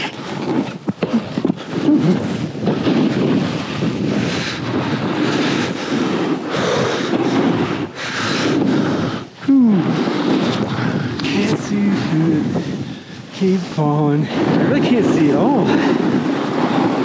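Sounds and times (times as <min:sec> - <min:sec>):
snowboard scraping over snow: 0:00.0 - 0:17.0
wind on microphone: 0:00.0 - 0:17.0.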